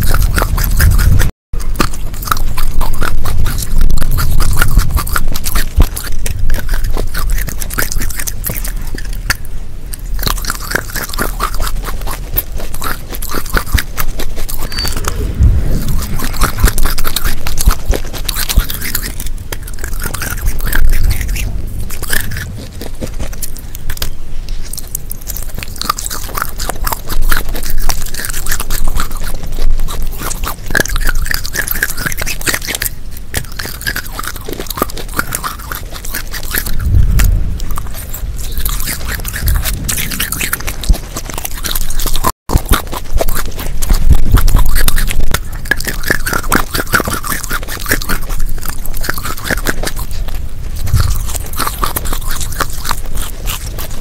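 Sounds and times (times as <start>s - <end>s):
crackles and clicks of biting: 0.0s - 54.0s
teeth crunching hard clay: 0.0s - 54.0s.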